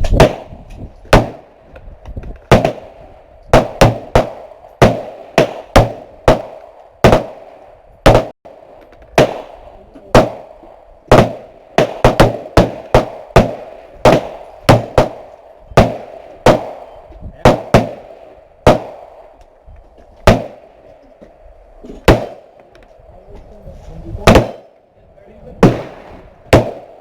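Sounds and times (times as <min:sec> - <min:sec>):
gunshots with ringing tail: 0:00.0 - 0:01.7, 0:02.4 - 0:19.4, 0:20.2 - 0:21.0, 0:22.0 - 0:22.6, 0:24.2 - 0:24.9, 0:25.6 - 0:27.0.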